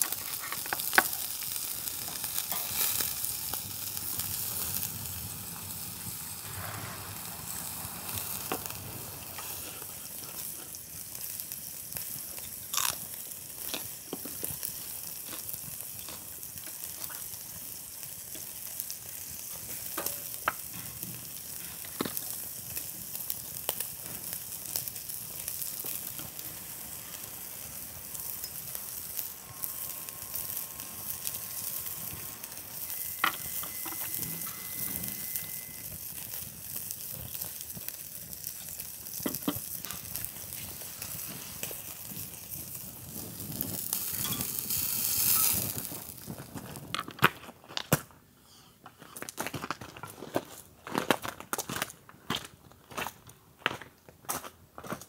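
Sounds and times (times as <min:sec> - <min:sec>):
meat sizzling on a grill: 0:00.0 - 0:46.9.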